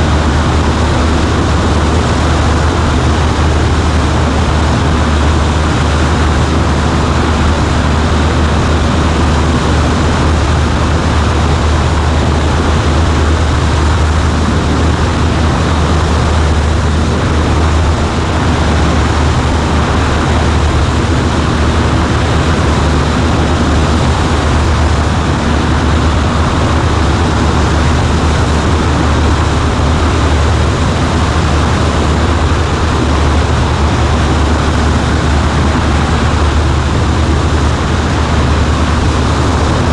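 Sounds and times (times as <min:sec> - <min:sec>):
propeller plane engine drone: 0:00.0 - 0:39.9
rushing air noise: 0:00.0 - 0:39.9.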